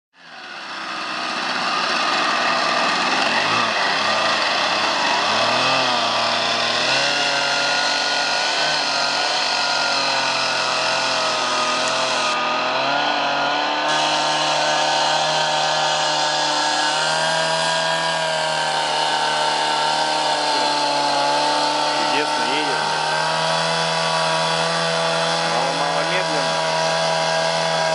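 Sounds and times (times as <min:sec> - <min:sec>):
two-stroke engine running fast: 0:00.2 - 0:27.9.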